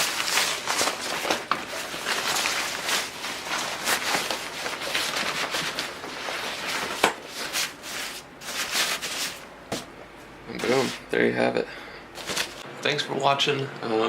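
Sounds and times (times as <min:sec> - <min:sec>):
fabric cover rustling and crinkling: 0:00.0 - 0:11.1, 0:12.2 - 0:12.6.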